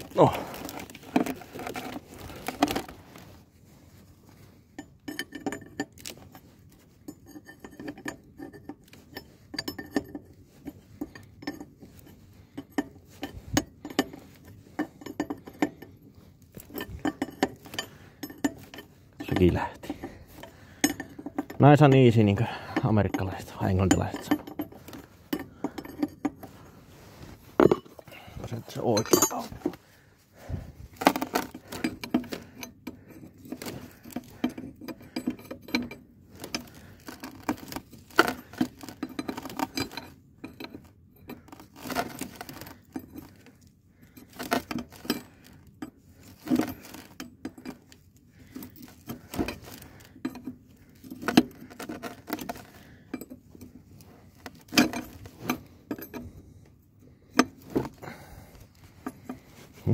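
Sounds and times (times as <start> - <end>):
metal tools clinking: 0.0 - 3.4, 4.3 - 59.9.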